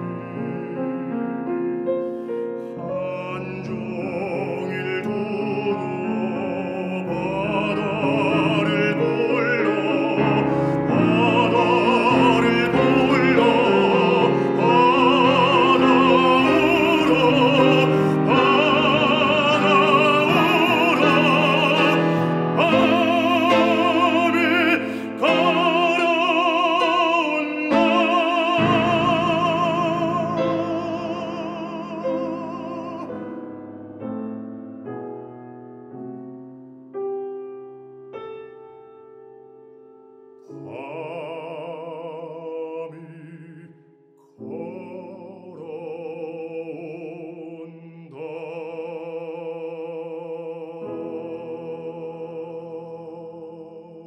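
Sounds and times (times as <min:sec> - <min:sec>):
piano accompaniment: 0:00.0 - 0:54.0
baritone singing with vibrato: 0:02.6 - 0:33.7, 0:40.5 - 0:54.0.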